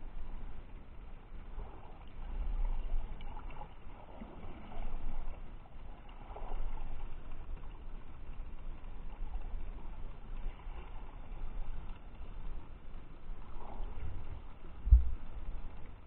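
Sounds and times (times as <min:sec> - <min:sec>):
underwater water rumble and sloshing: 0:00.0 - 0:16.0.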